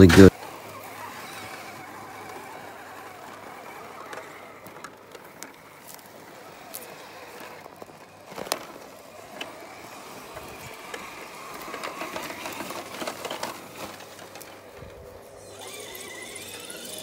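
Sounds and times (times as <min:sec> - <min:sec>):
grass rustling: 0:00.0 - 0:17.0
toy car motor whirring: 0:00.1 - 0:17.0.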